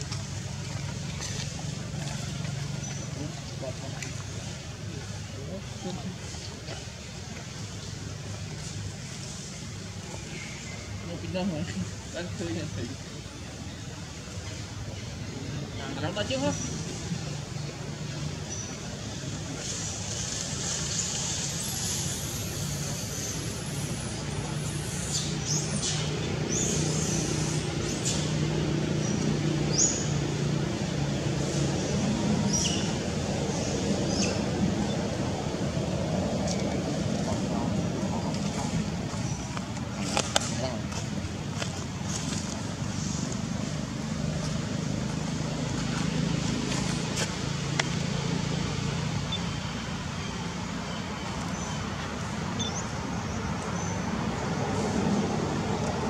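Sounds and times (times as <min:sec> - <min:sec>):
low motor vehicle hum: 0:00.0 - 0:56.0
outdoor background noise: 0:00.0 - 0:56.0.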